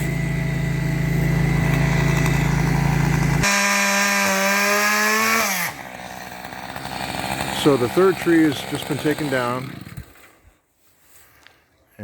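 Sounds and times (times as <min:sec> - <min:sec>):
chainsaw cutting wood: 0:00.0 - 0:10.6.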